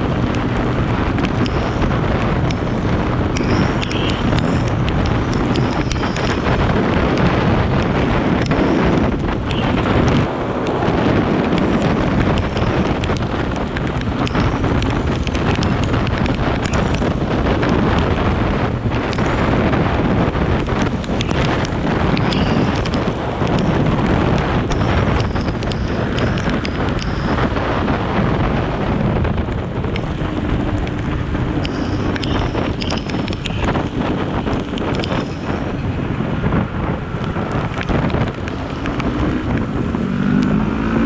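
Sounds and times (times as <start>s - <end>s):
motorcycle and road noise: 0.0s - 41.0s
wind buffeting microphone: 0.0s - 41.0s.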